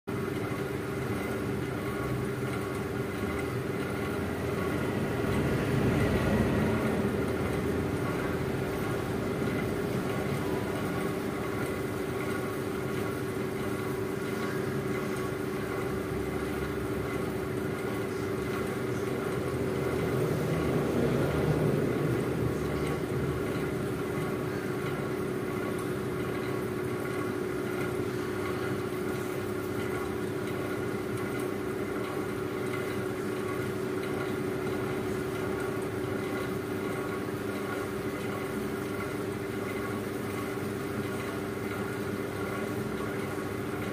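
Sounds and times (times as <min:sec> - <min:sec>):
steady mechanical hum: 0:00.1 - 0:43.9.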